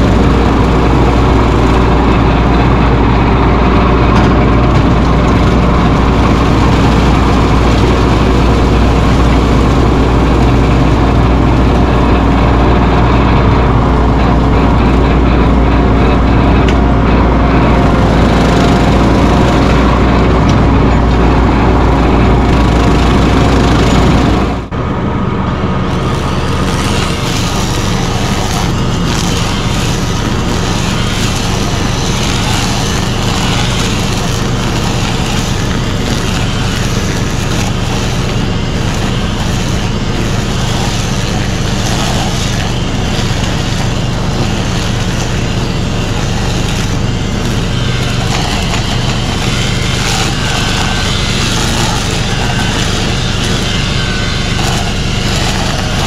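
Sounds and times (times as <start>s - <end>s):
diesel tractor running steadily: 0.0s - 56.0s.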